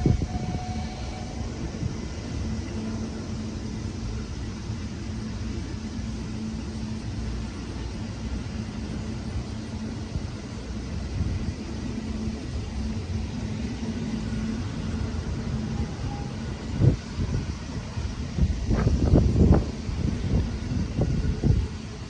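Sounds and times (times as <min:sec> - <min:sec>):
constant low hum: 0:00.0 - 0:22.0
train low rumble: 0:00.0 - 0:22.0.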